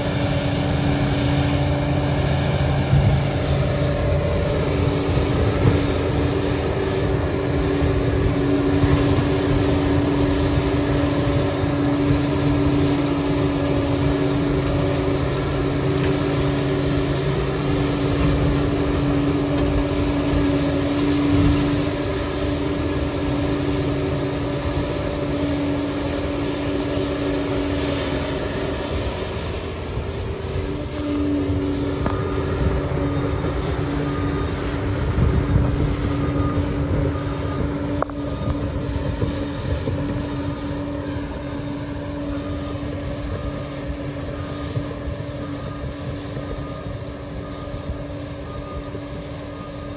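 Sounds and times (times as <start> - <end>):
diesel engine drone: 0.0 - 49.9.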